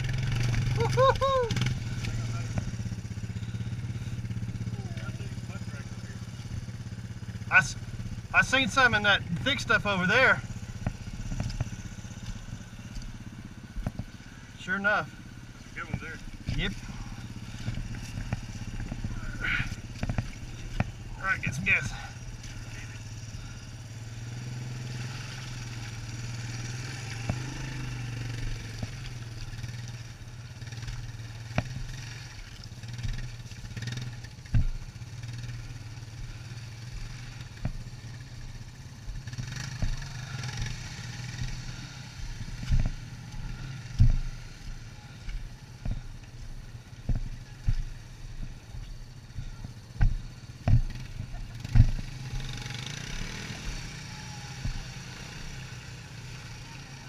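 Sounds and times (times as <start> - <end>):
knocks and rattles over bumps: 0.0 - 14.2, 15.1 - 23.6, 24.4 - 56.8
atv engine droning: 0.0 - 57.0.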